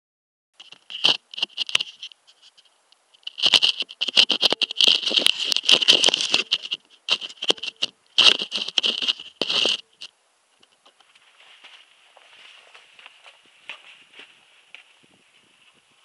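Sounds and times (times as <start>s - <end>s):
scratching and rustling: 0.6s - 16.0s.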